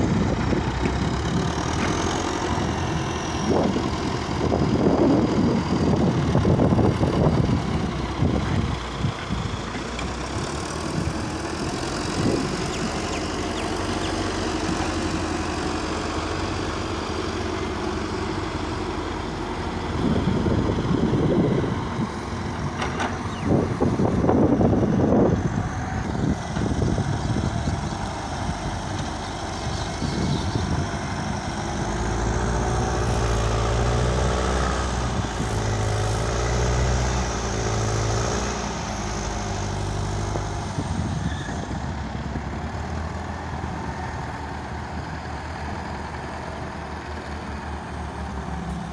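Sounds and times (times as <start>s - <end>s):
heavy machine diesel engines surging: 0.0s - 48.9s.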